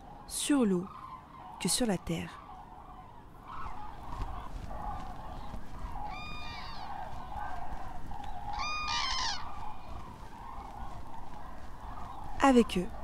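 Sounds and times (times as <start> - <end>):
cranes calling: 0.0 - 13.0
distant flock of cranes: 0.0 - 13.0.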